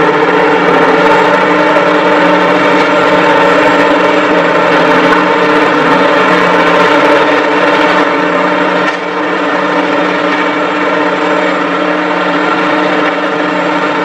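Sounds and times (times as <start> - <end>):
diesel engines of heavy machines: 0.0 - 14.0.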